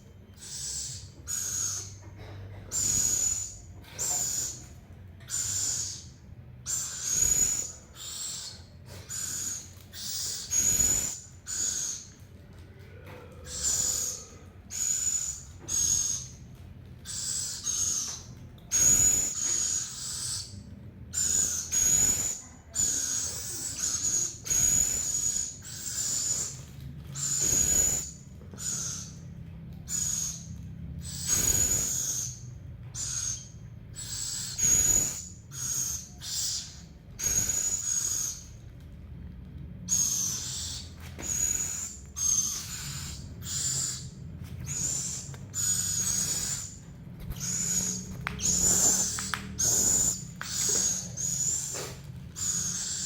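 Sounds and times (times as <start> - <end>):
owl raspy calls: 0.3 - 4.6, 5.3 - 12.2, 12.9 - 16.4, 17.0 - 29.2, 29.9 - 38.6, 39.9 - 53.0.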